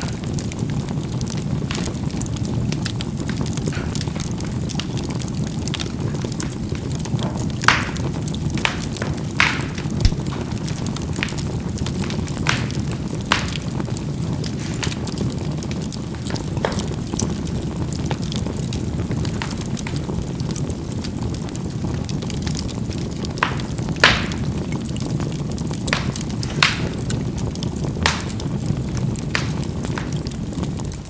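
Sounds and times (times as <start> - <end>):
charcoal crackling and popping: 0.0 - 31.0
fire rushing: 0.0 - 31.0.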